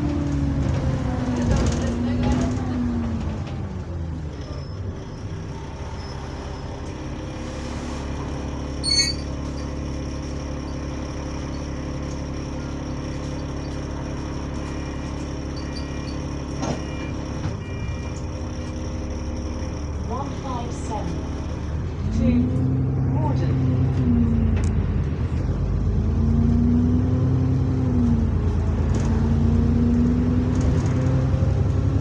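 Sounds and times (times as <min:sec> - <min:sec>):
bus engine humming: 0:00.0 - 0:32.0.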